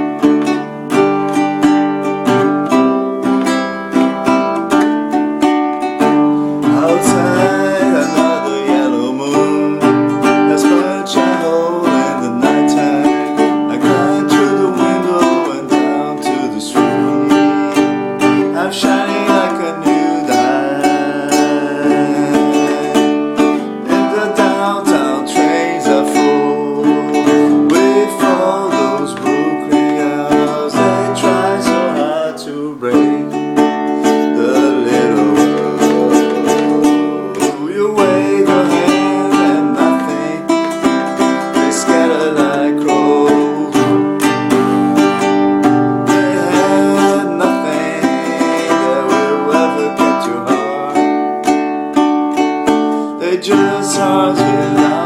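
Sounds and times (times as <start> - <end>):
plucked string instruments playing: 0.0 - 55.0.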